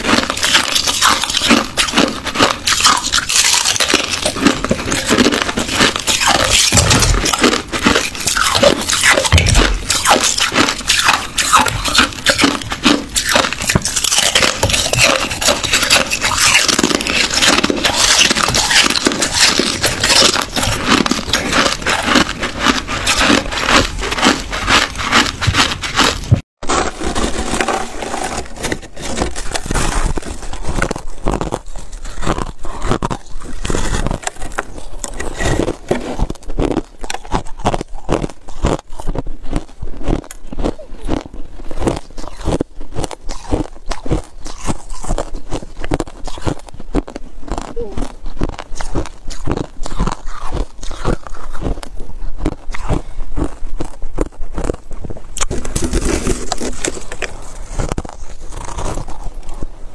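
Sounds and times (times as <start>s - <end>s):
ice being crunched by teeth: 0.0s - 59.9s.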